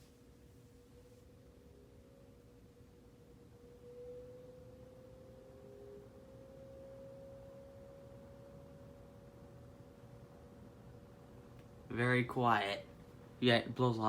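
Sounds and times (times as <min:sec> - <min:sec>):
fan motor hum: 0:00.0 - 0:14.0.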